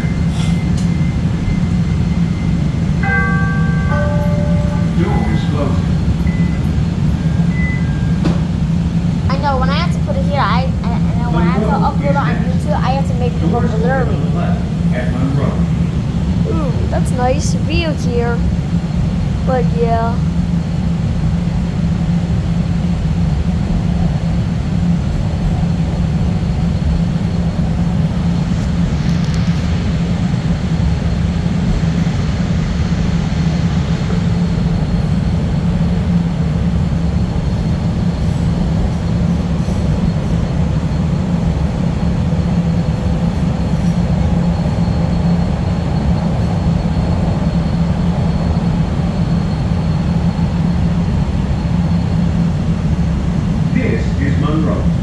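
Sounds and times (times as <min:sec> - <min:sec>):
subway train rumble in tunnel: 0:00.0 - 0:55.0.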